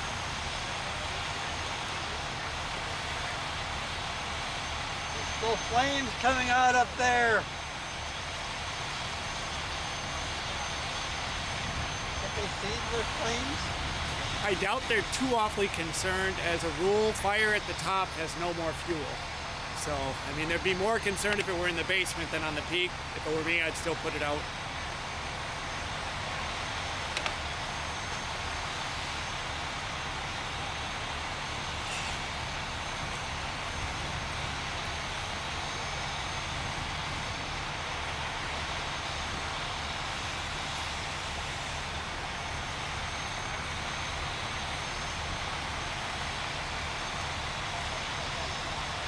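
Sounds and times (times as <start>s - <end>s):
engine drone: 0.0s - 49.0s.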